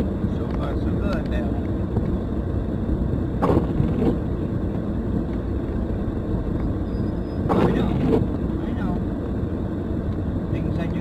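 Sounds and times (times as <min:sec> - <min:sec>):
car cabin rumble while driving: 0:00.0 - 0:11.0.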